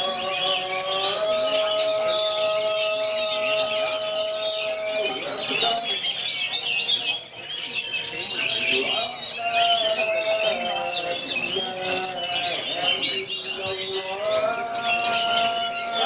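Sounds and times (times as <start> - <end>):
songbirds chorus chirping: 0.0 - 16.0.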